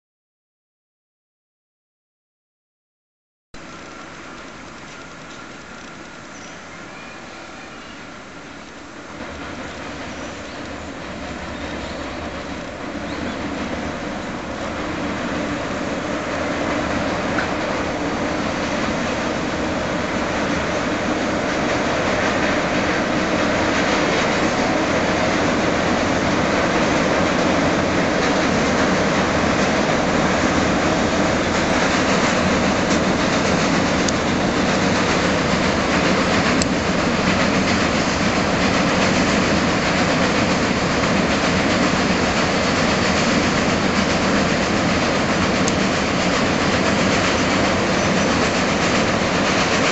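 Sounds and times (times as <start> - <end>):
freight train crossing steel bridge: 3.6 - 49.9.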